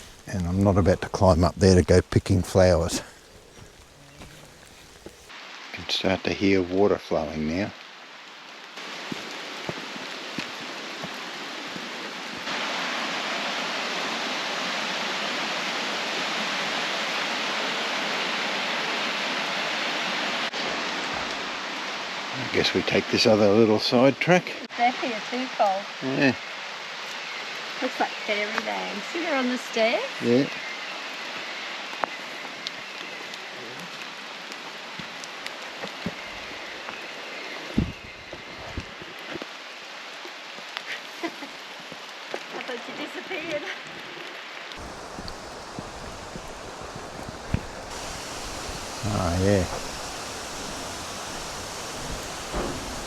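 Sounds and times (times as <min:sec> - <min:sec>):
rain hissing: 0:00.0 - 0:42.3, 0:44.3 - 0:53.0
flowing water and waterfall: 0:00.0 - 0:53.0.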